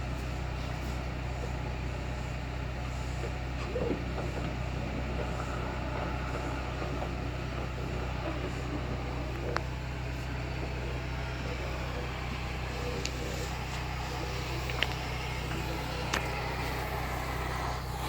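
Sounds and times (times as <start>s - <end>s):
vacuum running: 0.0s - 18.0s.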